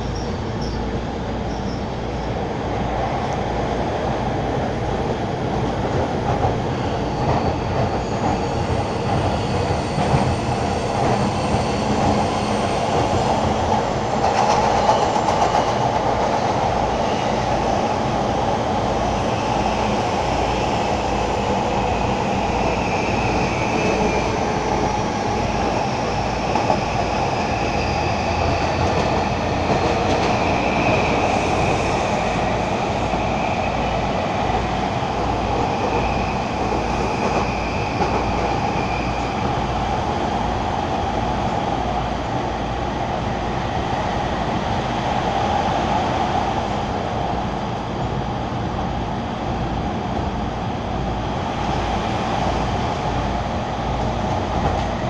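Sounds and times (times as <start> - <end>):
train running noise from inside: 0.0 - 55.0.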